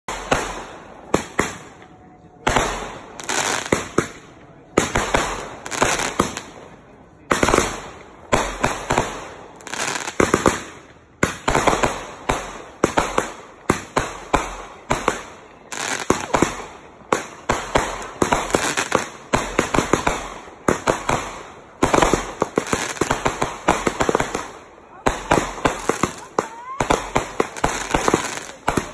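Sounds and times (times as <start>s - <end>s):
fireworks bangs with crackling: 0.1s - 28.9s.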